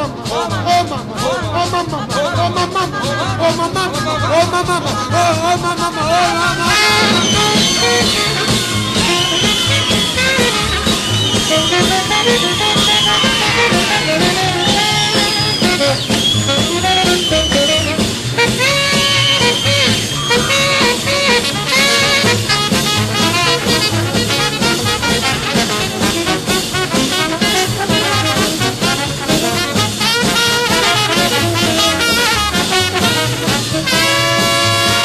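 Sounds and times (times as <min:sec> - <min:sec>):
swing music with brass and saxophone: 0:00.0 - 0:35.0.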